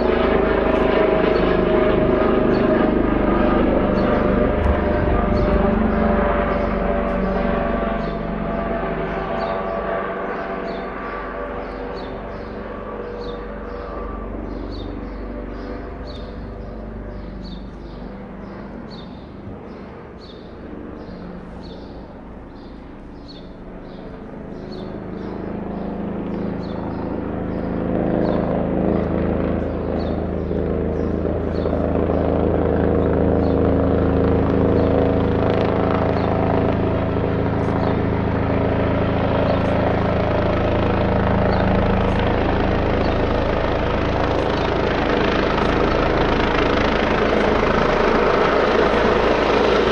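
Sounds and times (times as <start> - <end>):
helicopter rotor and turbine: 0.0 - 49.9
multi-tone hum: 0.0 - 49.9.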